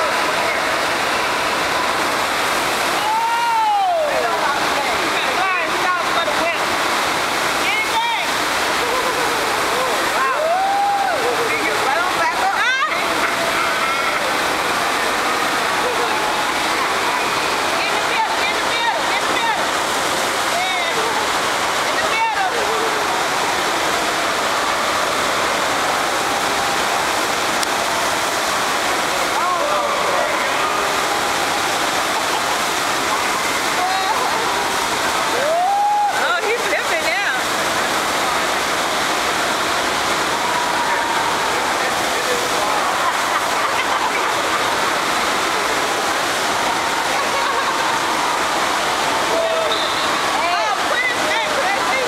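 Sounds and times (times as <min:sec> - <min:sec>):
loud rush of pumped water: 0:00.0 - 0:52.0.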